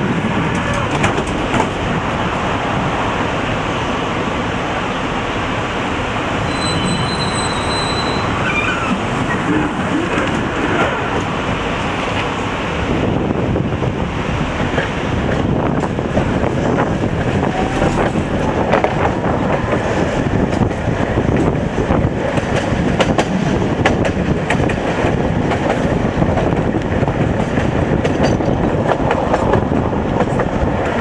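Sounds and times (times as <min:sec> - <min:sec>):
rail joint clicks and clatter: 0:00.0 - 0:04.9, 0:05.8 - 0:31.0
tram wheels rumbling on rails: 0:00.0 - 0:31.0.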